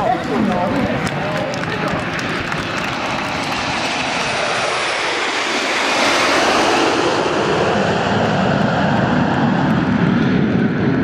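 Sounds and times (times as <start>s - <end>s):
jets passing overhead: 0.0s - 11.0s.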